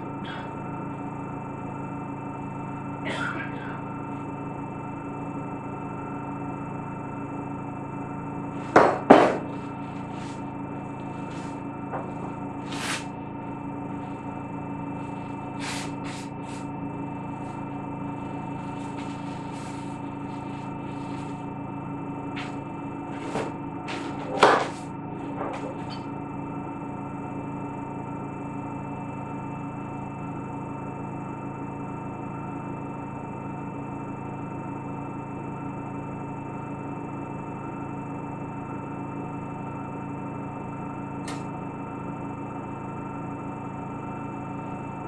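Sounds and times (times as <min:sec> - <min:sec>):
laboratory equipment hum: 0:00.0 - 0:45.0.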